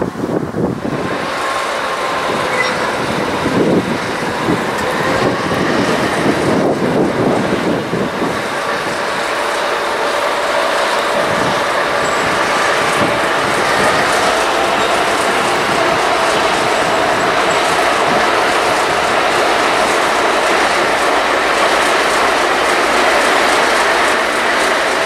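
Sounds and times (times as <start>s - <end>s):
diesel locomotive engine drone: 0.0s - 25.0s
wagons rolling on rails: 0.0s - 25.0s.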